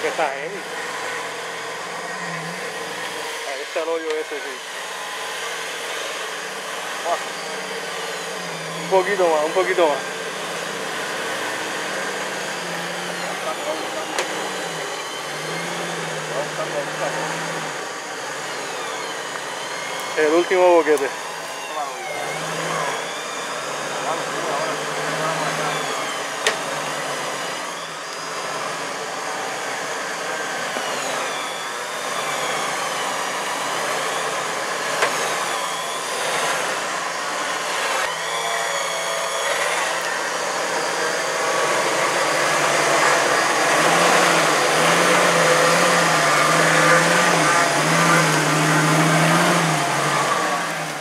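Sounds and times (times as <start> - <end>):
engine revving: 0.0 - 51.0.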